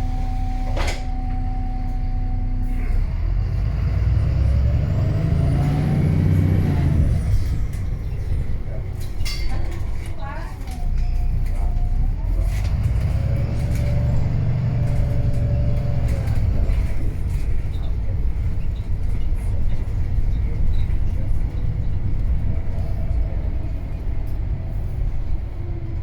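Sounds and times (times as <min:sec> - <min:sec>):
bus diesel engine rumble: 0:00.0 - 0:26.0.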